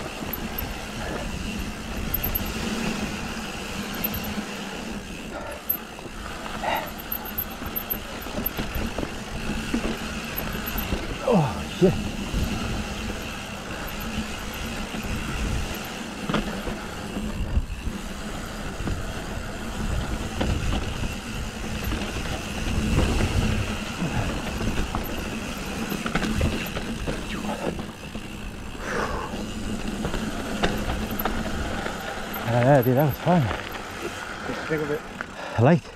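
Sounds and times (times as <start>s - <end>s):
tyres rumbling on dirt: 0.0s - 35.8s
bike rattling: 0.0s - 35.9s.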